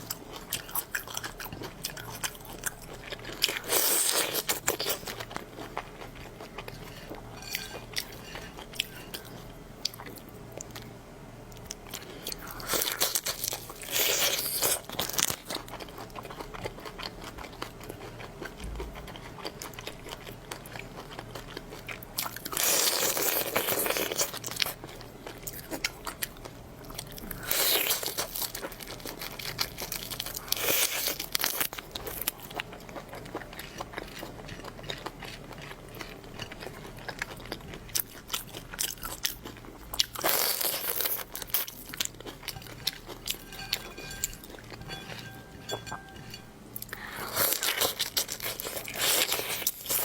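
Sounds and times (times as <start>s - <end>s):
person chewing crunchy food: 0.0s - 50.0s.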